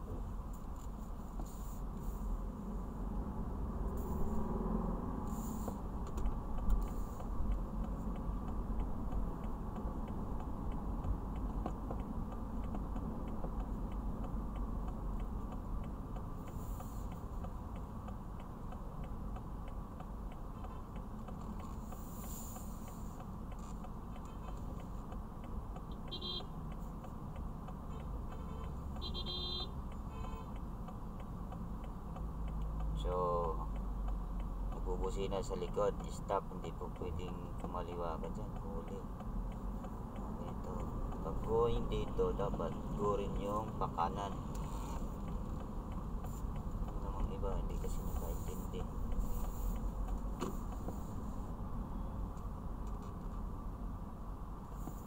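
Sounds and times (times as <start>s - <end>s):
engine and road rumble: 0.0s - 55.0s
light even ticking: 2.4s - 55.0s.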